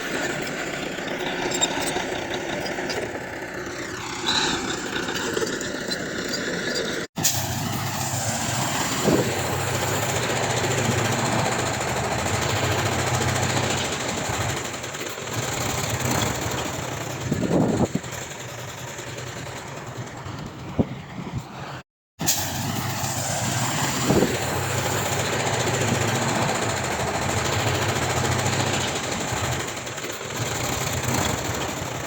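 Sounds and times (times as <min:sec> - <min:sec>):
heavy diesel machinery engine hum: 0:00.0 - 0:32.0.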